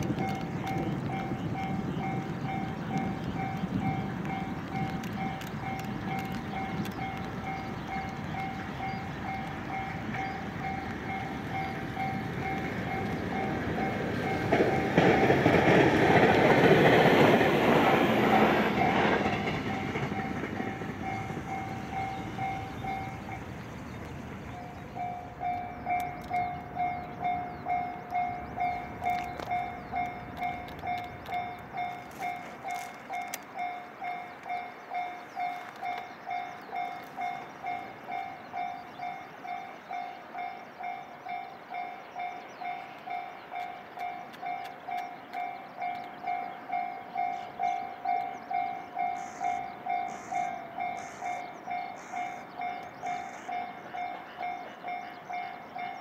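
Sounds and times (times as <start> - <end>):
level crossing warning bell: 0.0 - 56.0.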